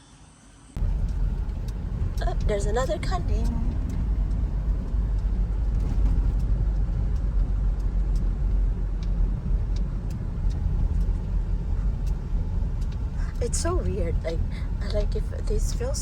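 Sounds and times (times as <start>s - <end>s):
car engine and road rumble: 0.3s - 16.0s
faint ticks: 0.8s - 16.0s.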